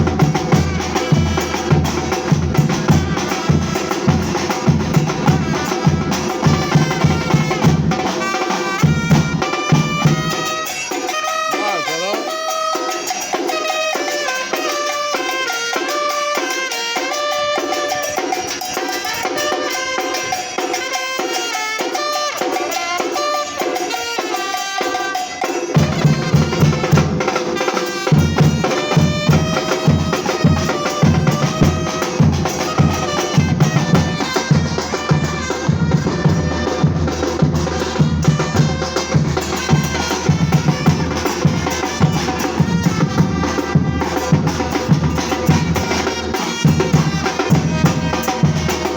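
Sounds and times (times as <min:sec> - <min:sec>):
higher drums: 0:00.0 - 0:48.9
pitched melody: 0:00.0 - 0:48.9.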